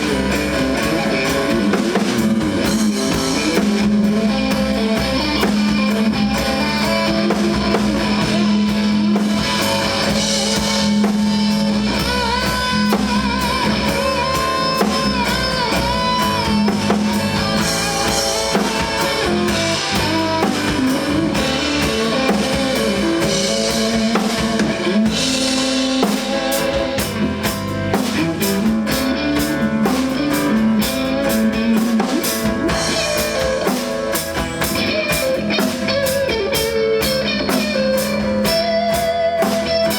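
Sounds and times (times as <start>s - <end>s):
drum kit: 0.0s - 39.9s
guitar: 0.0s - 39.9s
wavering guitar melody: 0.0s - 39.9s.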